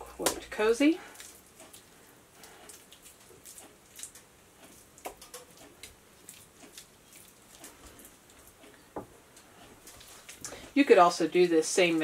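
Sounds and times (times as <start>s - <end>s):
wet squishing of meat by hand: 0.1s - 8.7s, 9.6s - 10.7s.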